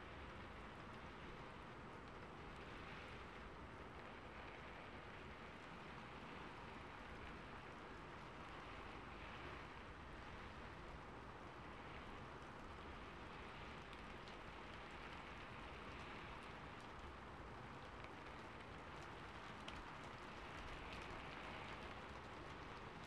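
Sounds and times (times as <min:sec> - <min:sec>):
rain hiss on a rooftop: 0:00.0 - 0:23.0.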